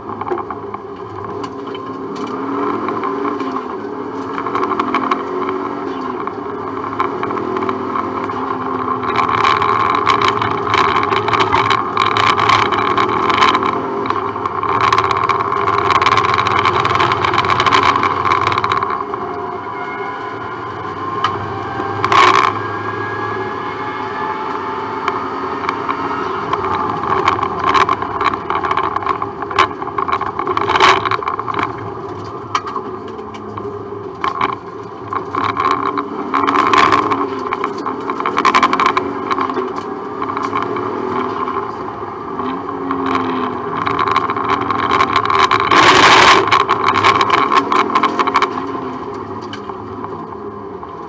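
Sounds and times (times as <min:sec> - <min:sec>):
rally car engine from inside cabin: 0:00.0 - 0:51.0.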